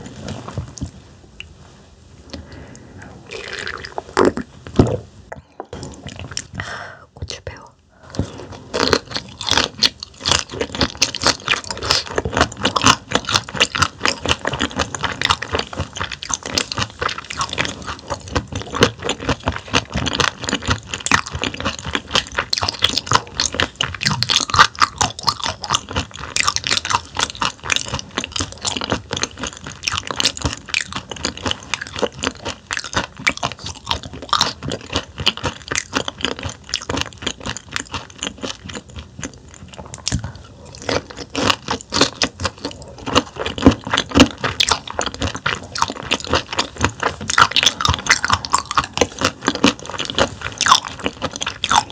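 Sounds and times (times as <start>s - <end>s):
crunchy chewing of raw fish: 8.0s - 51.9s.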